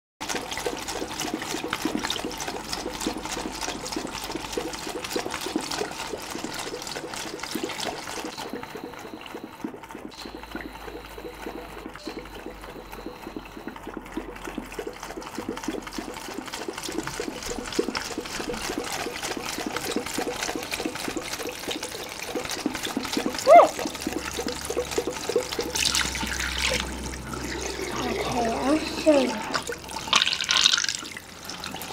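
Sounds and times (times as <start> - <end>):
tap water running into balloon: 0.2 - 31.9
water splashing into basin: 0.2 - 31.9.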